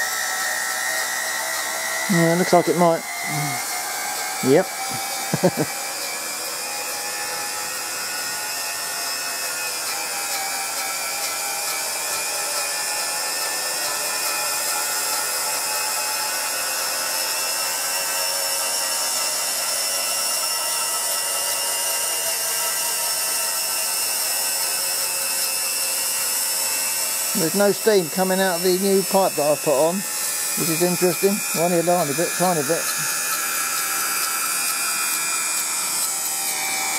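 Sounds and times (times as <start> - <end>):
steam turbine whining: 0.0 - 36.9.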